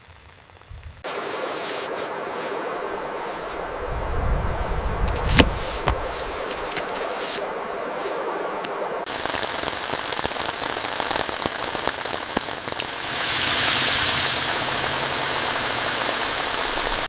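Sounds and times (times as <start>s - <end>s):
heavy rain on a surface: 0.0s - 17.0s.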